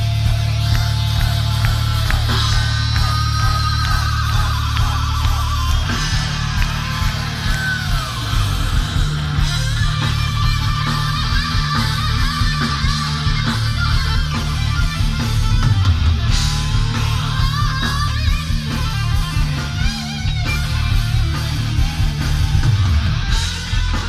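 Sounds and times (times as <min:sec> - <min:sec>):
thrash metal band playing live: 0:00.0 - 0:24.0.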